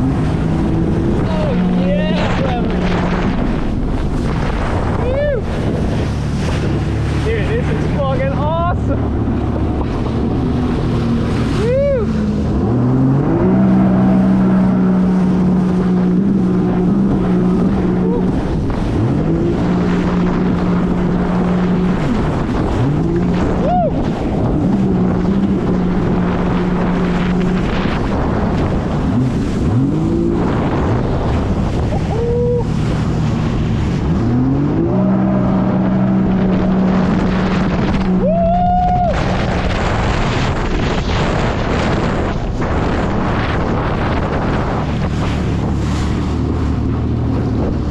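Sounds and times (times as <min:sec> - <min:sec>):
jet ski engine running: 0:00.0 - 0:47.9
wind buffeting microphone: 0:00.0 - 0:47.9.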